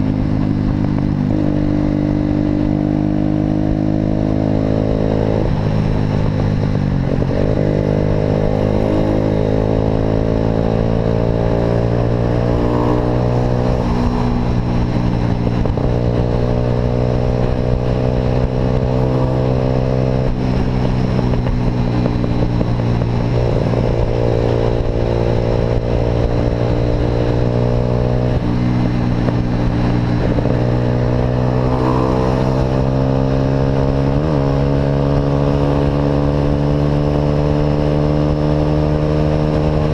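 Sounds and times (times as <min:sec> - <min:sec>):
motorcycle exhaust engine note: 0:00.0 - 0:39.9.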